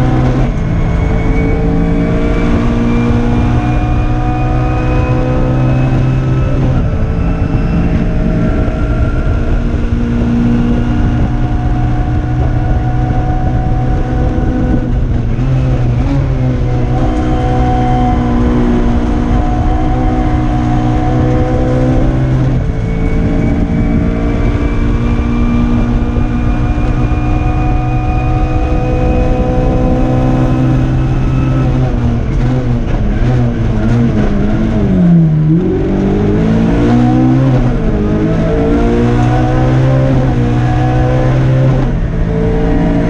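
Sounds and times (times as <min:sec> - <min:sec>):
car engine revving hard: 0:00.0 - 0:43.0.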